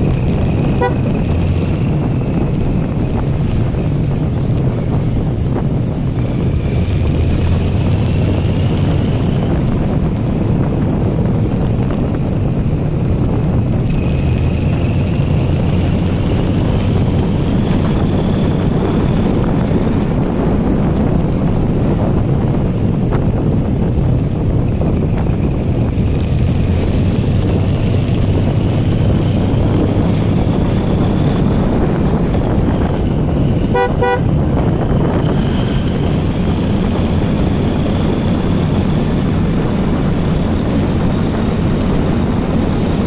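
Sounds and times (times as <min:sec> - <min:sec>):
motorcycle engine drone: 0:00.0 - 0:43.0
wind buffeting microphone: 0:00.0 - 0:43.0.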